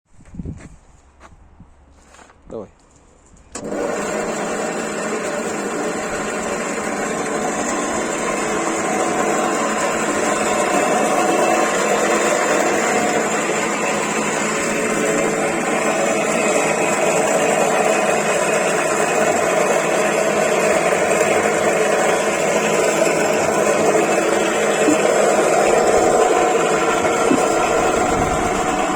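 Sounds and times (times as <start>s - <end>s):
woodworking machine whirring: 3.5s - 28.9s.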